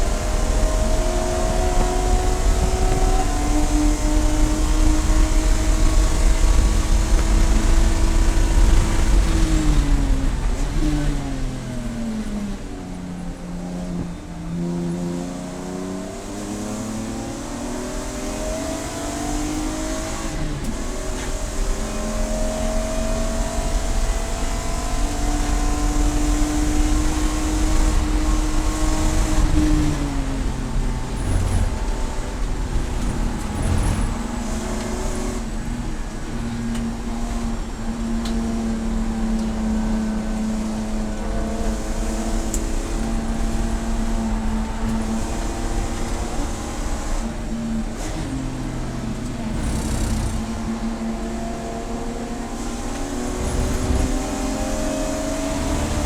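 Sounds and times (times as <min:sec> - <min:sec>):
tyre and wind noise: 0:00.0 - 0:14.5, 0:16.3 - 0:56.0
race car engine accelerating: 0:00.0 - 0:56.0.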